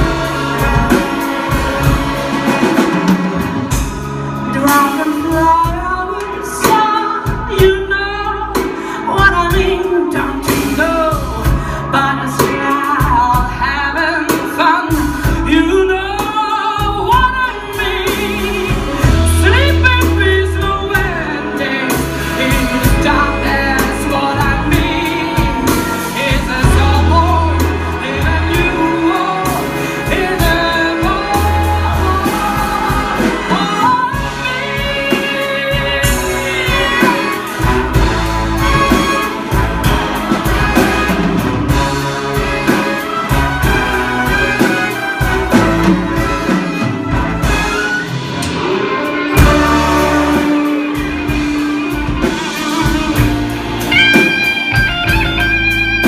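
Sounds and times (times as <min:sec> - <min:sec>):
jazz band with brass and saxophone: 0:00.0 - 0:56.0.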